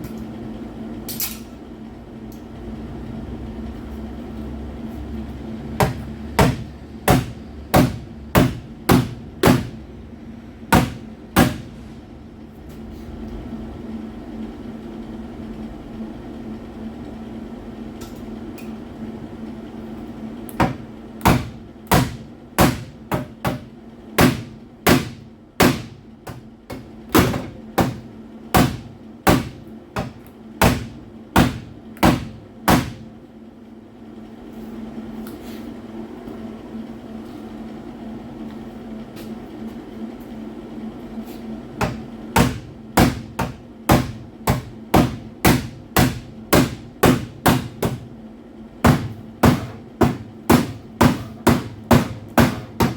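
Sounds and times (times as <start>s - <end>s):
steady hum: 0.0s - 52.9s.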